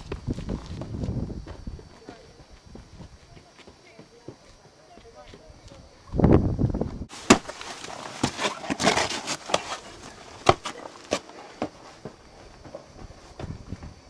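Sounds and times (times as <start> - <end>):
footsteps scuffing on rocks: 0.0 - 5.8, 7.1 - 14.0.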